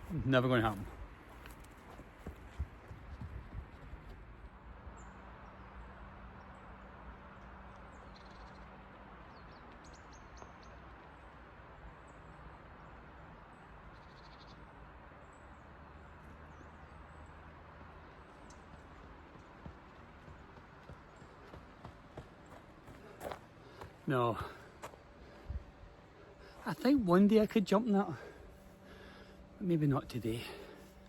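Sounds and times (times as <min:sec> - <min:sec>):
low background rush: 0:00.0 - 0:31.0
small songbirds chirping: 0:04.9 - 0:31.0.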